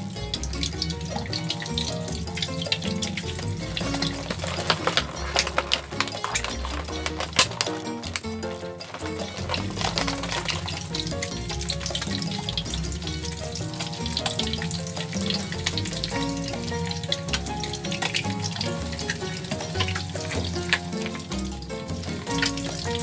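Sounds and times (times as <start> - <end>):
background music with bass line: 0.0 - 23.0
egg sizzling in a pan: 0.0 - 23.0.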